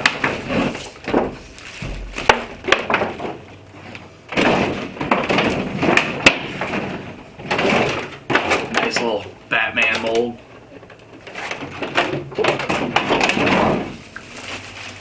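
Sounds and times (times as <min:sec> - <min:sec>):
cardboard and plastic crinkling: 0:00.0 - 0:09.2, 0:11.1 - 0:15.0
sharp clicks and knocks: 0:01.0 - 0:09.2, 0:09.9 - 0:14.3.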